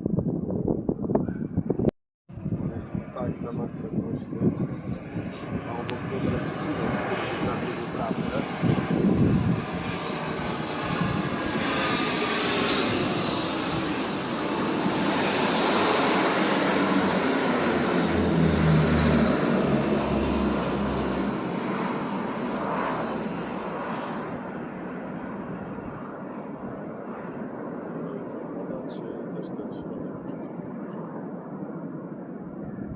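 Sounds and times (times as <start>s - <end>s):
jet engines passing overhead: 0.0s - 32.9s.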